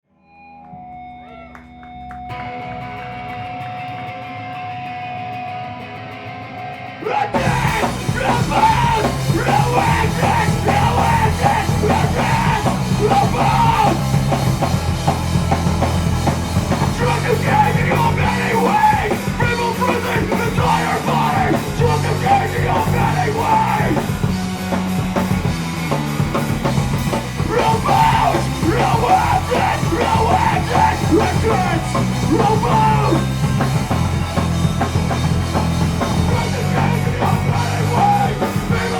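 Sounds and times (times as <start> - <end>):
rock band playing loud: 0.4 - 38.9.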